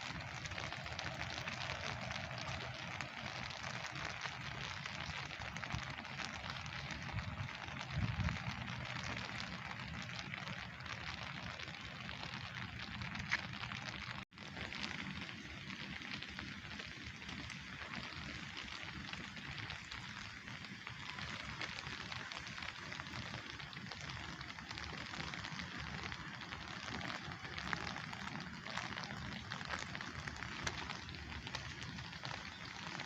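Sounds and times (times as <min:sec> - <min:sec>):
raindrops ticking on surfaces: 0:00.0 - 0:33.0
steady rain falling: 0:00.0 - 0:33.0.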